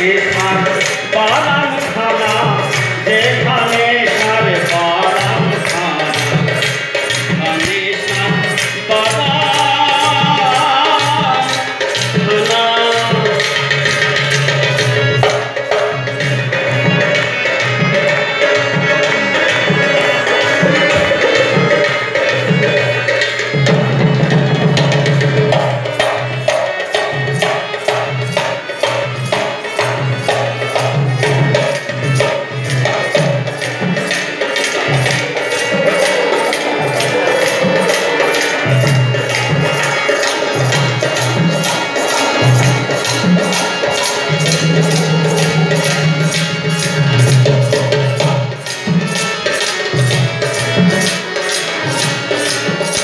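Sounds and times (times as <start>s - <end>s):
hand percussion beat: 0.0s - 53.0s.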